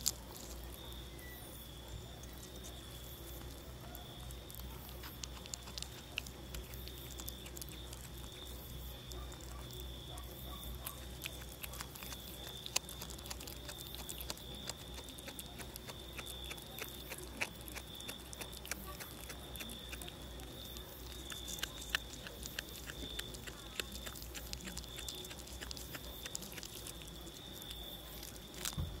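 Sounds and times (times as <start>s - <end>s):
kitten chewing crunching: 0.0s - 29.0s.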